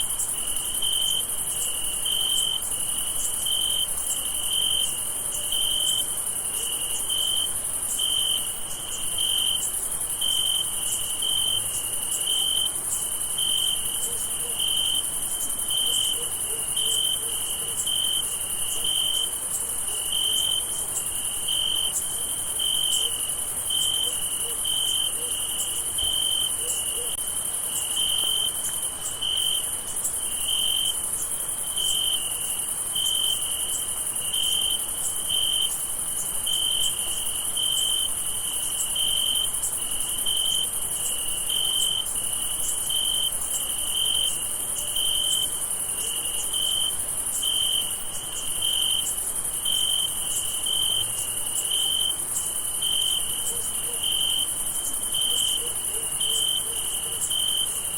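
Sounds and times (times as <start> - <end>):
cricket chirping: 0.0 - 57.9.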